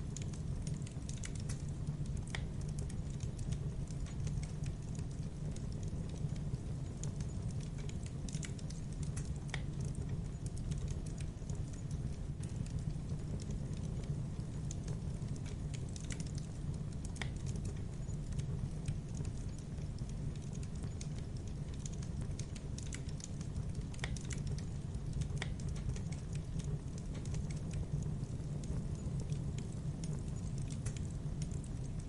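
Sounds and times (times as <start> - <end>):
campfire crackling and popping: 0.0 - 32.0
low fire rumble: 0.0 - 32.0.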